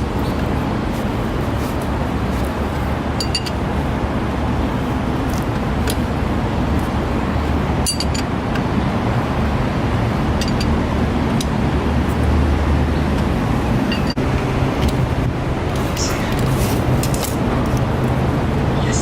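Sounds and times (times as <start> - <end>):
traffic noise with low hum: 0.0 - 19.0.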